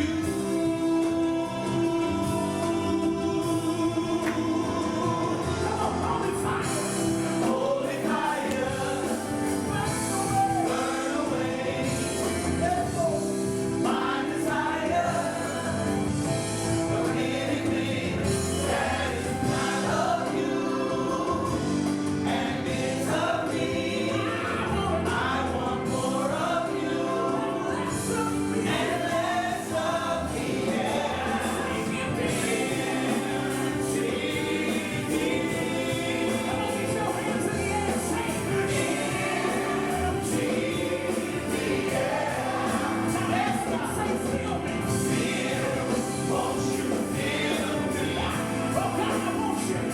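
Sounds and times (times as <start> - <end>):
choir singing: 0.0 - 49.9
sustained instrumental chords: 0.0 - 49.9.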